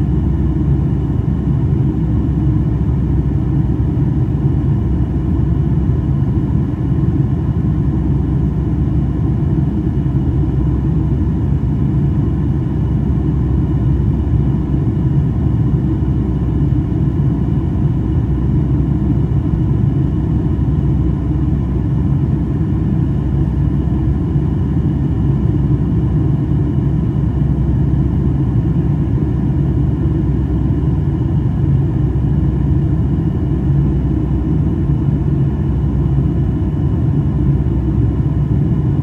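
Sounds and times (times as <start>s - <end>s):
airliner cabin rumble: 0.0s - 39.0s
faint steady whine: 0.0s - 39.0s.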